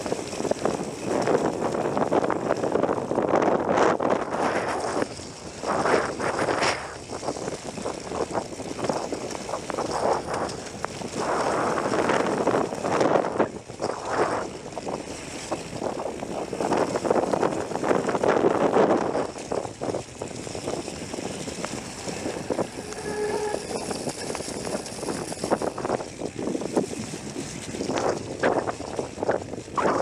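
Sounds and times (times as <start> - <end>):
bike rattling over rocky ground: 0.0 - 30.0
wind on microphone: 0.0 - 30.0.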